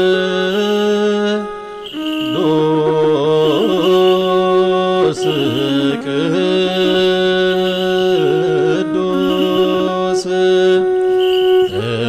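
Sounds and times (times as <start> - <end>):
chant-like melody: 0.0 - 12.0
low sustained drone note: 0.6 - 12.0.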